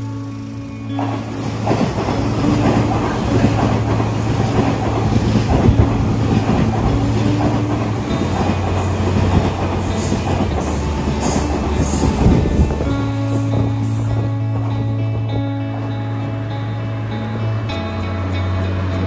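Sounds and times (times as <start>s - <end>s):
train wheels rushing on rail: 0.0s - 15.9s.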